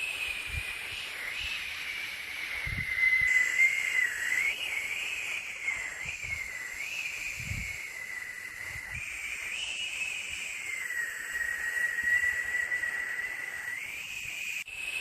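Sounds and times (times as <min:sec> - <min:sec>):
high whistling whine: 0:00.0 - 0:15.0
white noise hiss: 0:00.0 - 0:15.0.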